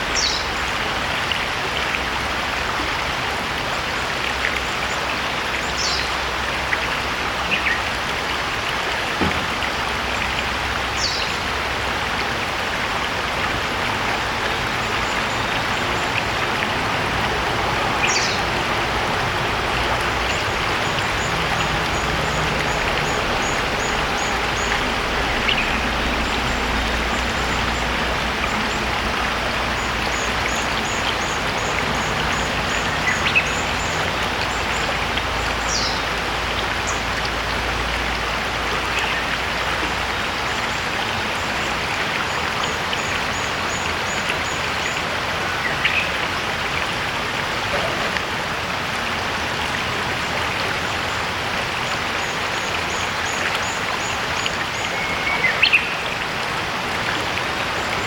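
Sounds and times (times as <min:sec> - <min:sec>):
river running over stones: 0:00.0 - 0:58.0.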